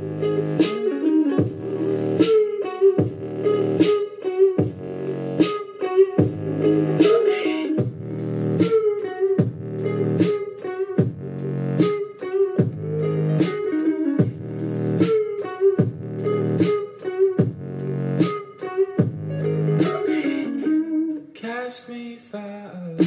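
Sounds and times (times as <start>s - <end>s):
rock song through speaker: 0.0s - 21.1s.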